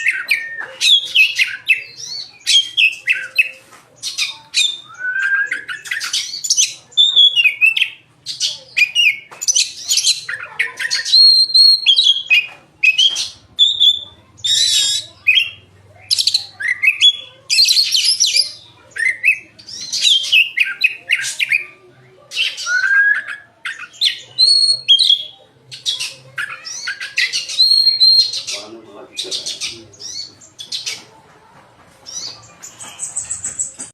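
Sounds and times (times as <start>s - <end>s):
bird singing: 0.0s - 31.2s.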